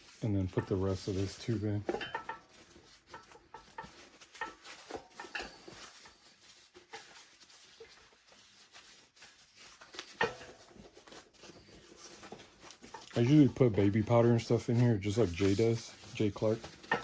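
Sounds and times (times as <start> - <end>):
rubber rubbing: 0.0 - 17.0.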